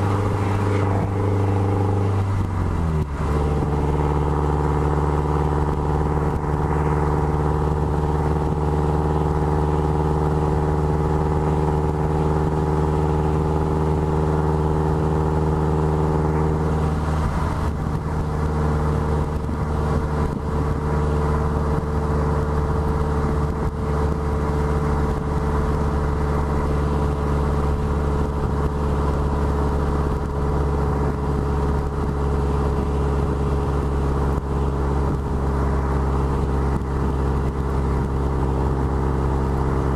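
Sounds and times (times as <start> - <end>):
car exhaust note: 0.0 - 39.9.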